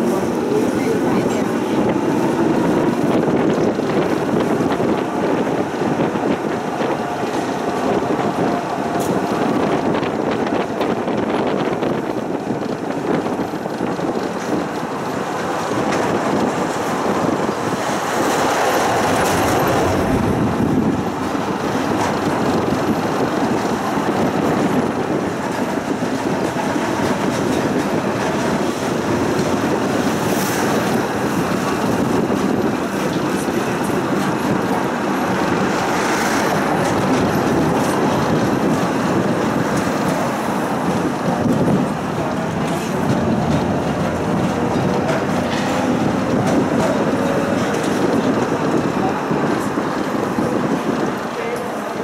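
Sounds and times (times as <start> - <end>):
tram wheels on track: 0.0 - 52.0.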